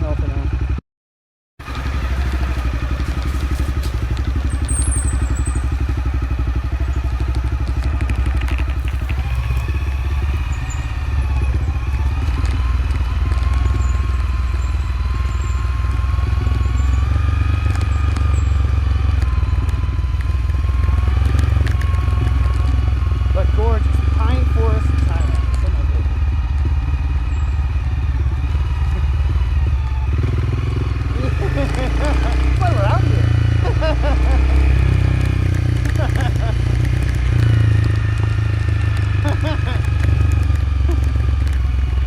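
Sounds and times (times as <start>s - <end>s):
motorcycle engine running: 0.0s - 0.8s, 1.6s - 42.0s
low steady rumble: 1.6s - 42.0s.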